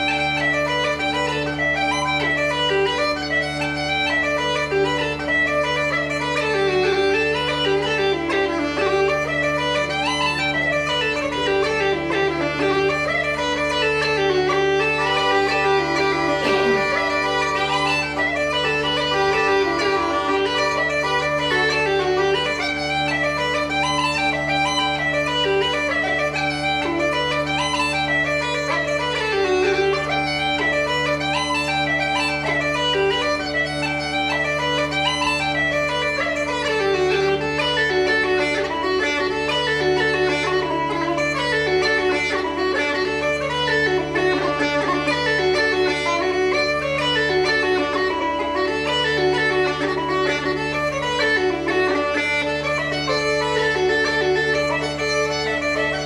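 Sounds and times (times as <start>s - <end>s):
bagpipe chanter melody: 0.0s - 56.0s
bagpipe drones: 0.0s - 56.0s.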